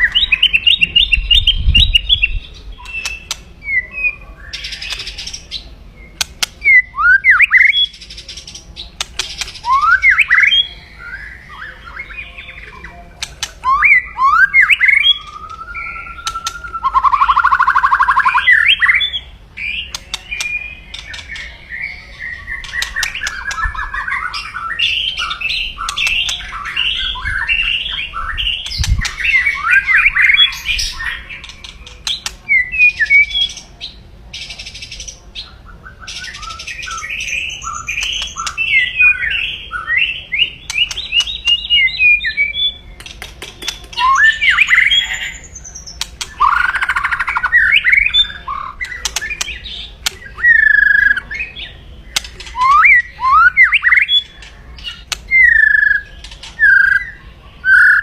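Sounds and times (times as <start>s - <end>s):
bird chattering and whistling: 0.0s - 58.0s.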